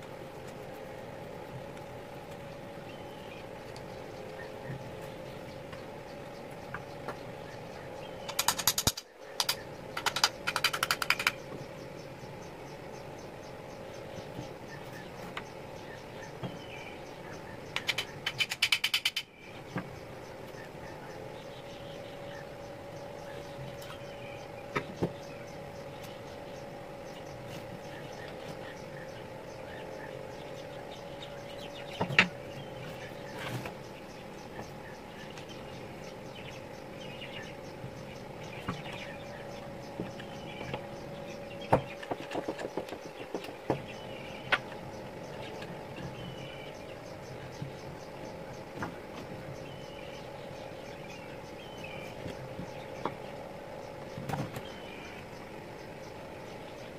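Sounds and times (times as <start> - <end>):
faint chirping: 0.0 - 56.9
steady hum: 0.0 - 56.9.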